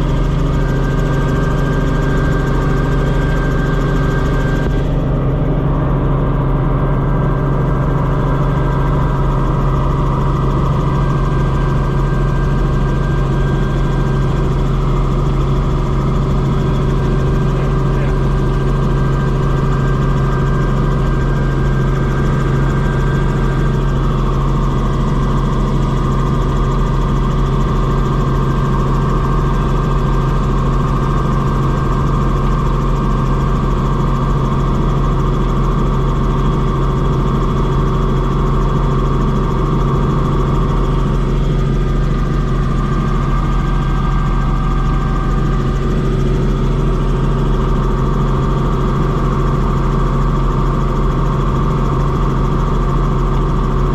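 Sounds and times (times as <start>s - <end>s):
helicopter engine and rotor drone: 0.0s - 53.9s.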